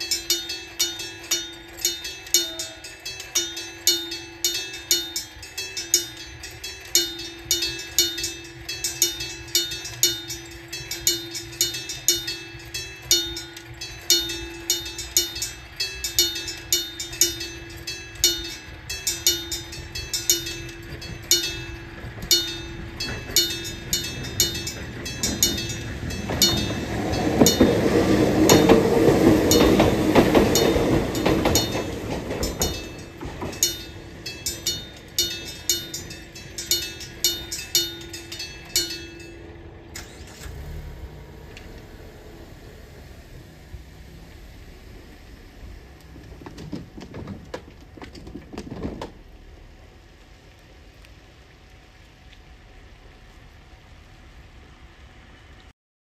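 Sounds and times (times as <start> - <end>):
level crossing bell ringing: 0.0 - 45.9
train passing: 0.0 - 51.5, 52.5 - 55.7.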